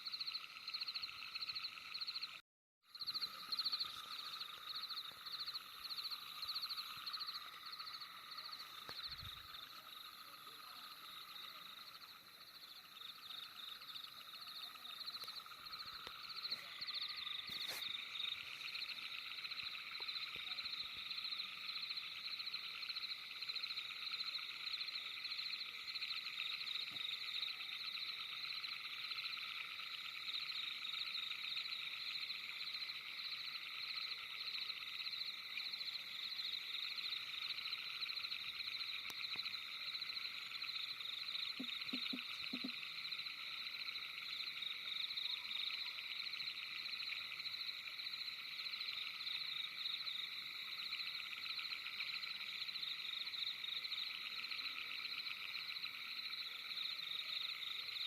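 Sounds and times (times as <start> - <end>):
frogs trilling: 0.0 - 58.0.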